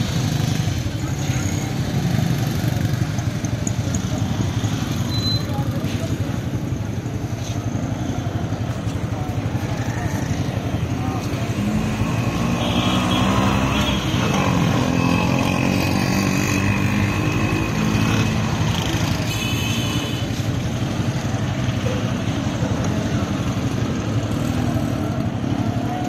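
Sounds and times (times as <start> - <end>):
traffic engines passing by: 0.0 - 26.0.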